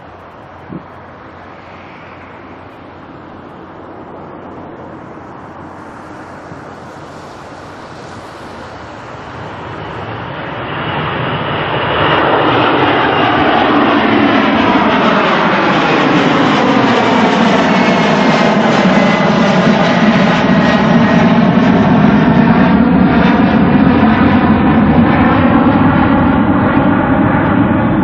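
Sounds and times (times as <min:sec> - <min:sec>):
jet airliner engines rumbling: 0:00.0 - 0:28.0.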